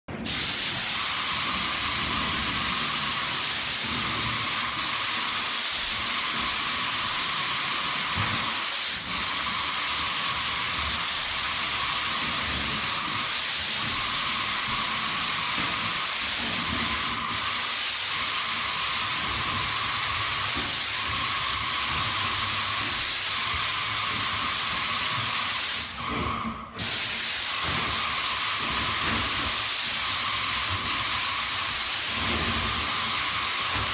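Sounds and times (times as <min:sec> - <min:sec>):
paint sprayer hissing: 0:00.2 - 0:26.0, 0:26.8 - 0:33.9.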